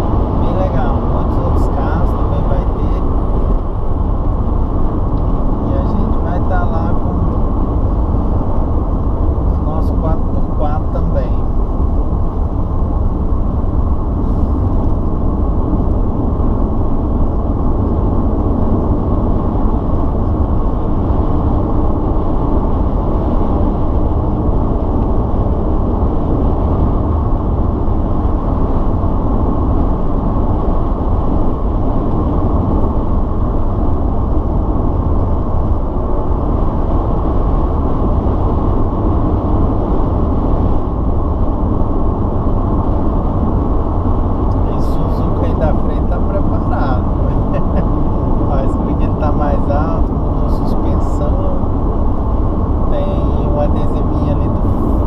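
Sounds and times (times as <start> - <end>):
car engine drone: 0.0 - 55.0
tyre and road noise: 0.0 - 55.0.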